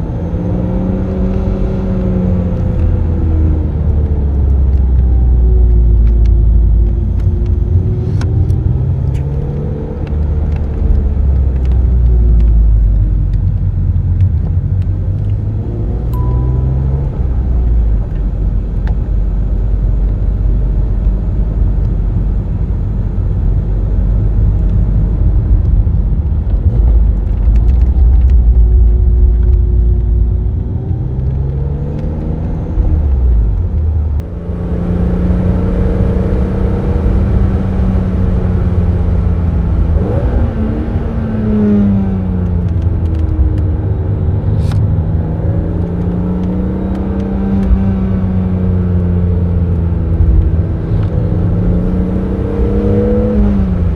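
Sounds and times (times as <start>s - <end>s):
car engine accelerating: 0.0s - 53.9s
road and wind rumble: 0.0s - 53.9s.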